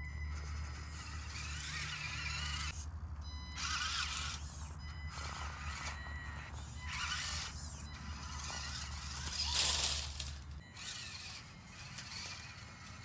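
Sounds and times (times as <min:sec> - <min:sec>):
small motor whining: 0:00.0 - 0:13.0.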